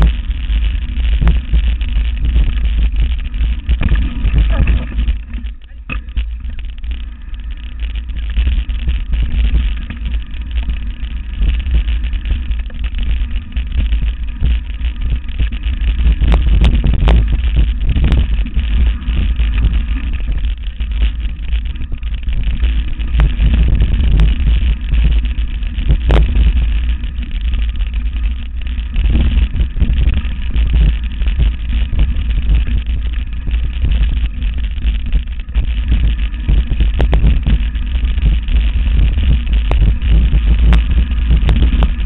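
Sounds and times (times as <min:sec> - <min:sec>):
bike rattling and knocking: 0:00.0 - 0:42.0
wind rumble on microphone: 0:00.0 - 0:42.0.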